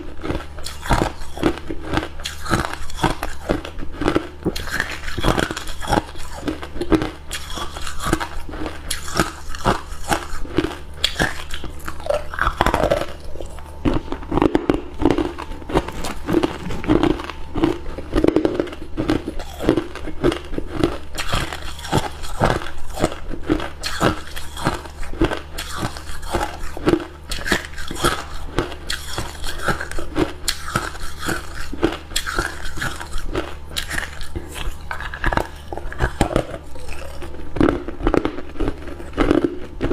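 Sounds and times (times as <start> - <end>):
ice being chewed: 0.0 - 39.9
low steady hum: 0.0 - 39.9.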